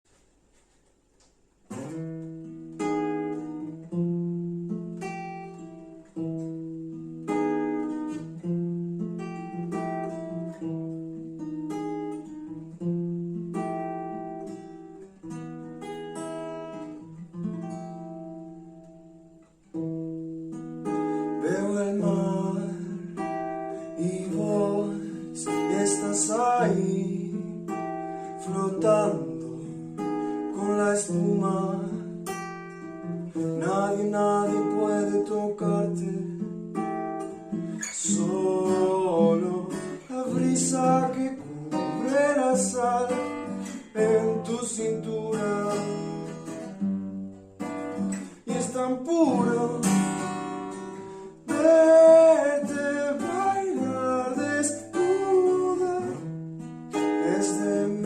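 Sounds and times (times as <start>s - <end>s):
acoustic guitar chords: 0.1s - 58.0s.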